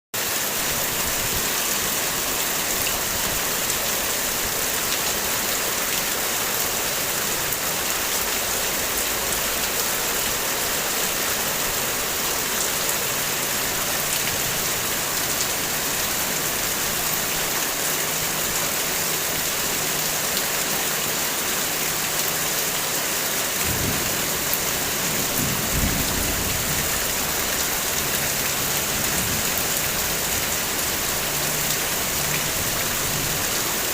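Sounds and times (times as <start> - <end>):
heavy rain: 0.2 - 33.9.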